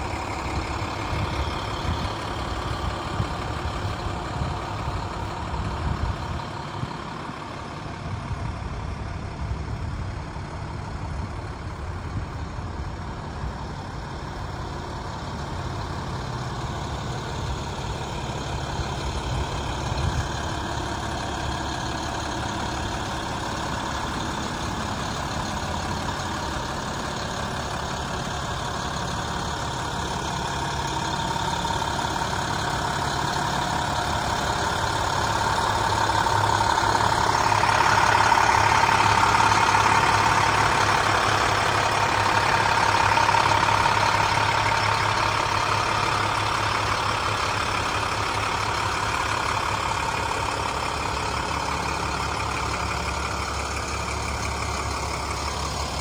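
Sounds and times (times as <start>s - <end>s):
diesel truck idling: 0.0s - 56.0s.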